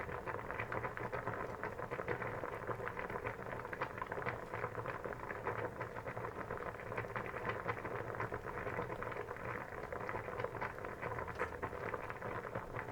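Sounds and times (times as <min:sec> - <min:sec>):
water boiling in a pot: 0:00.0 - 0:12.9.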